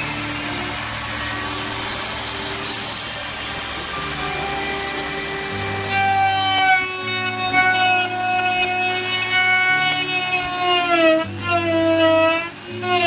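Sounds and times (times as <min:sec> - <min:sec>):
router cutting wood: 0:00.0 - 0:13.0
wood router whining: 0:00.0 - 0:13.0.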